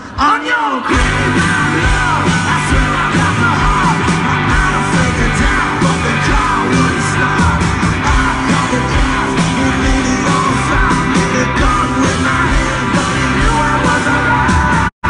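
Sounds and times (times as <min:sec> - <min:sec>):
keyboard: 0:00.0 - 0:14.9
person singing: 0:00.0 - 0:14.9
drums: 0:00.0 - 0:15.0
bass guitar: 0:00.9 - 0:14.9
electric guitar: 0:00.9 - 0:14.9.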